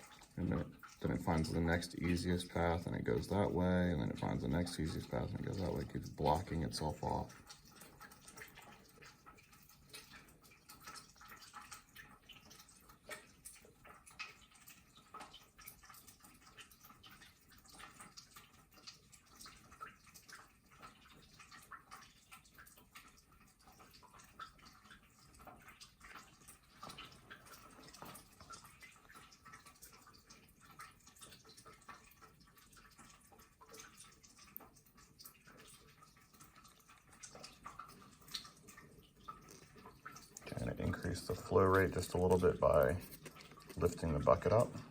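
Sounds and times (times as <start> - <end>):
water trickling and dripping on sand: 0.0 - 44.9.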